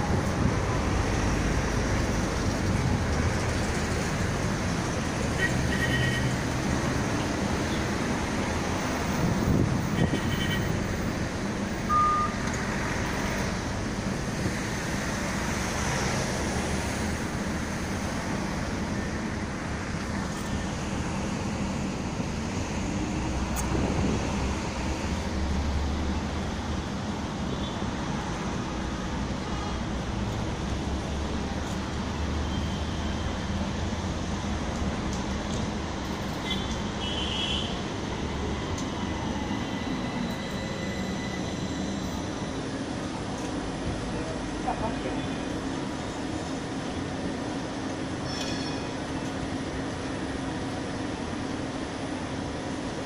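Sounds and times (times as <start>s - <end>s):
city street traffic noise: 0.0s - 53.0s.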